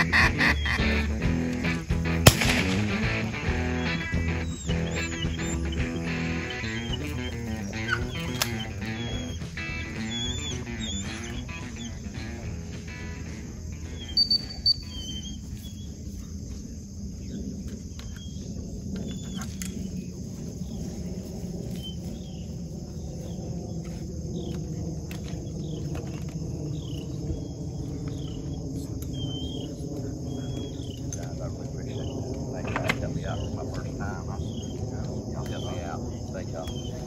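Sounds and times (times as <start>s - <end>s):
crickets chirping: 0.0s - 37.0s
low rumble: 0.0s - 37.0s.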